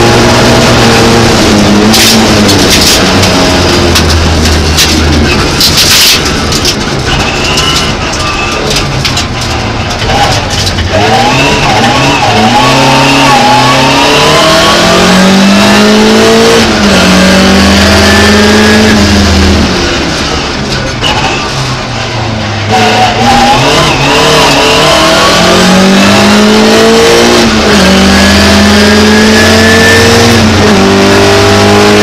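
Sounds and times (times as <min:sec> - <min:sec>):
rally car engine accelerating: 0:00.0 - 0:32.0
tyre and road noise: 0:00.0 - 0:32.0.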